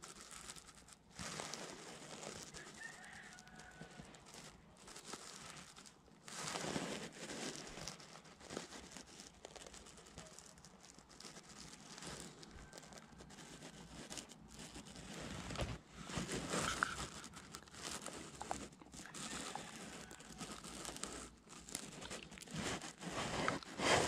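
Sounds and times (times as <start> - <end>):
jacket sleeve brushing: 0.0 - 24.0
rustling handling noise: 0.0 - 24.0.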